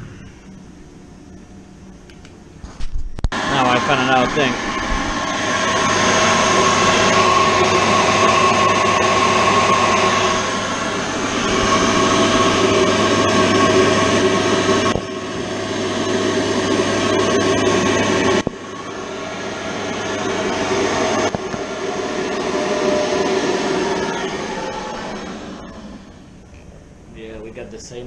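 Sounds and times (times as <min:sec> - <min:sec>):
boiler blower whirring hum: 0:00.0 - 0:28.0.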